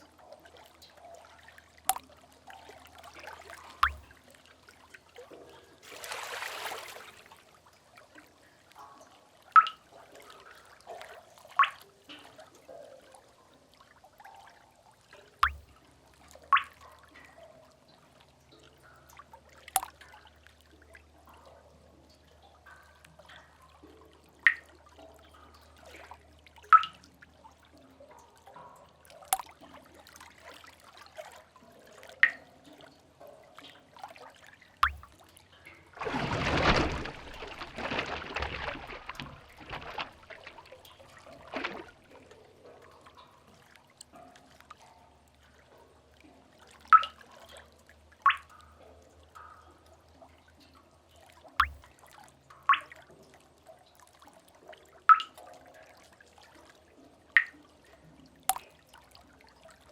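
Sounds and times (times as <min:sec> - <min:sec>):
water drips plinking into pool: 0:00.0 - 0:59.9.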